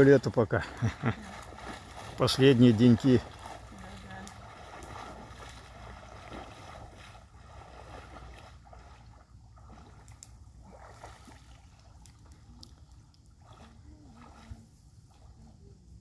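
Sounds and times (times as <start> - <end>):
faint water splashing: 0.0 - 16.0.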